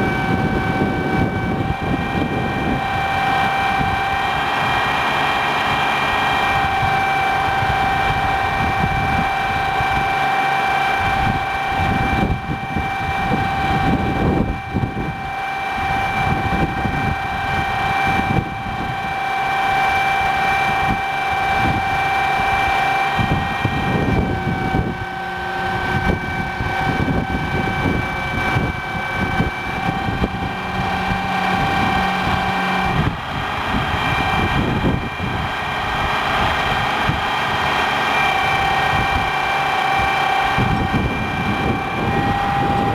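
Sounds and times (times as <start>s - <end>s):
truck engine high whine: 0.0s - 42.9s
uneven low engine rumble: 0.0s - 42.9s.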